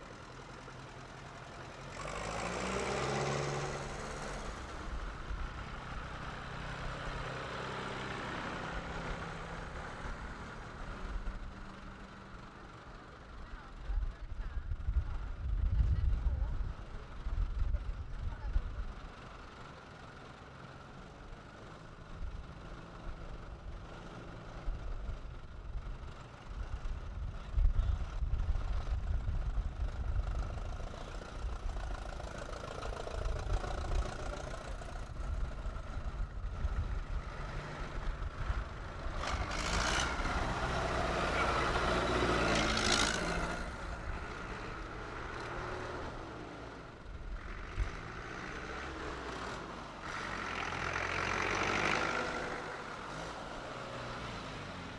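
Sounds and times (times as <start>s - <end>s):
tractor engines rumbling: 0.0s - 54.9s.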